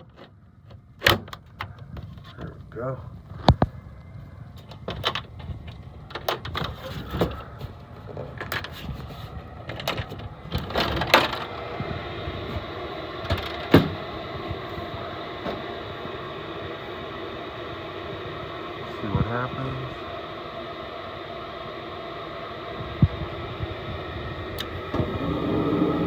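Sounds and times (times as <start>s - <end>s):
furnace motor hum: 1.6s - 26.0s.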